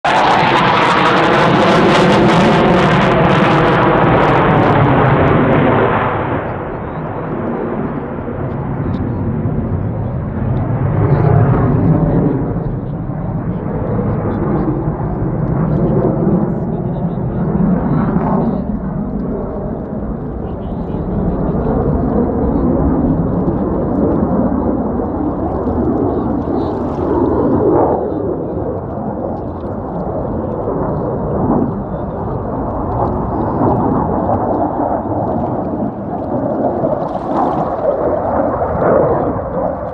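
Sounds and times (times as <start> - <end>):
jet engine rushing: 0.0 - 39.9.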